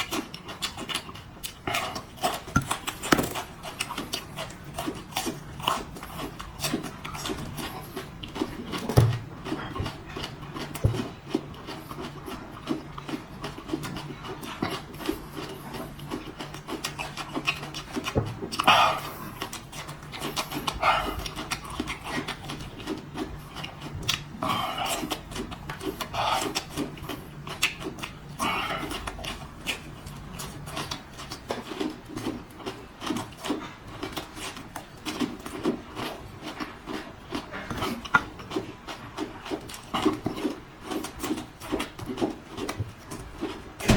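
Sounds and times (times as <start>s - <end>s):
person chewing with wet mouth clicks: 0.0s - 43.9s.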